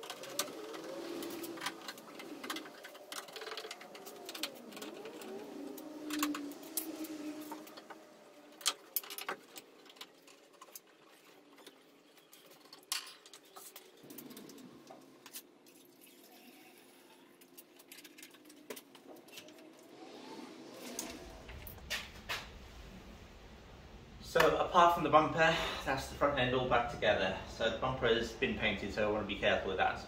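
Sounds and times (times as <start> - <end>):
faint workshop hum: 0.0 - 30.0.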